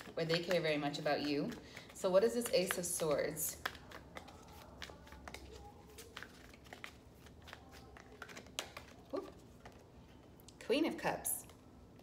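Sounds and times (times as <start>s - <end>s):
cards being shuffled: 0.0s - 10.3s.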